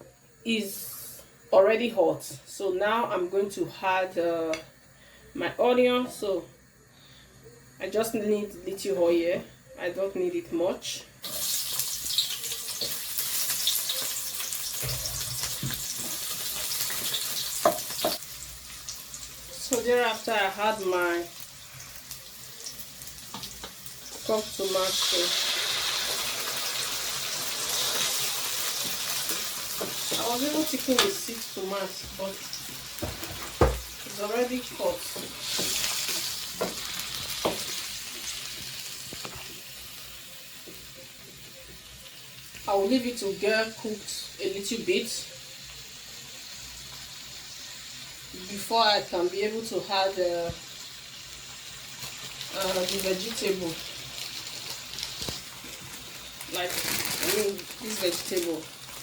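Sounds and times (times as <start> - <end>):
onion sizzling in oil: 11.2 - 59.0.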